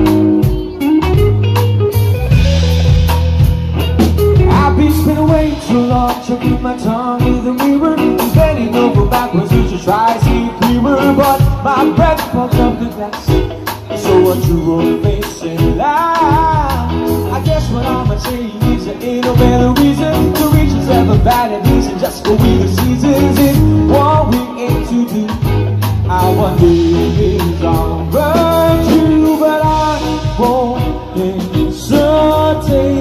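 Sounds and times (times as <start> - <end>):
drums: 0.0 - 33.0
electric bass guitar: 0.0 - 33.0
person singing: 0.0 - 33.0.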